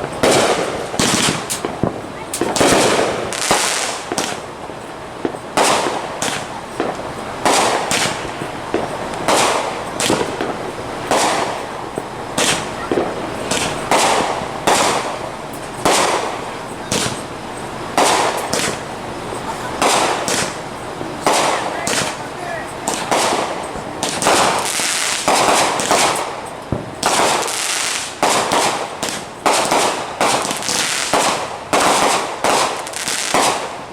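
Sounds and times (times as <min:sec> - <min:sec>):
fireworks bangs with crackle: 0:00.0 - 0:33.9.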